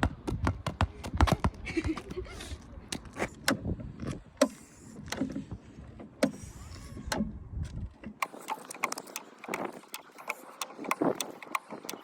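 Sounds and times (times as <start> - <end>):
wind buffeting microphone: 0.0 - 4.4, 5.0 - 12.0.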